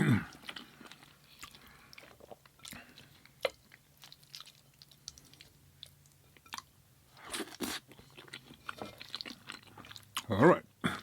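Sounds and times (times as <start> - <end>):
person chewing food: 0.2 - 11.0.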